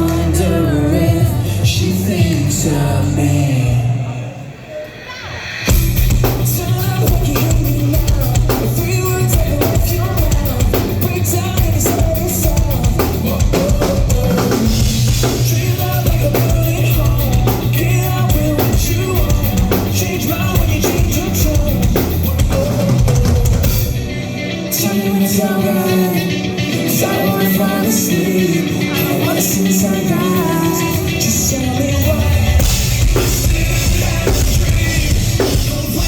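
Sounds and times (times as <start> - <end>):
drum kit: 0.0 - 3.6, 4.9 - 36.0
rock band playing live: 0.0 - 4.2, 4.9 - 36.0
person singing: 0.0 - 36.0.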